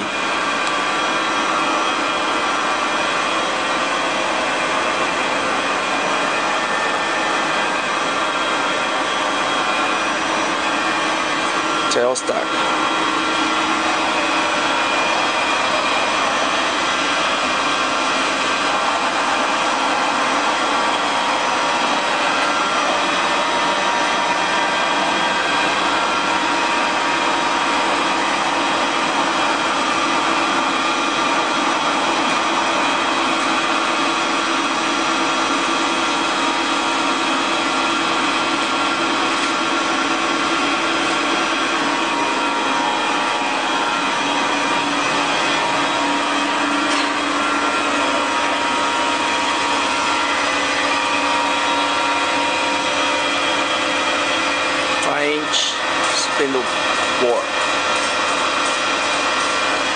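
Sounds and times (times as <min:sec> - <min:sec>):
machinery drone: 0:00.0 - 0:59.9
steady whining tones: 0:00.0 - 0:59.9.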